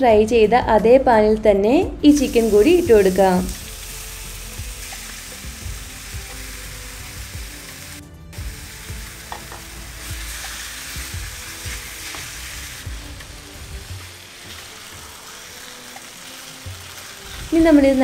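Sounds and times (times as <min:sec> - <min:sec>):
chicken sizzling in a frying pan: 0:02.2 - 0:18.0.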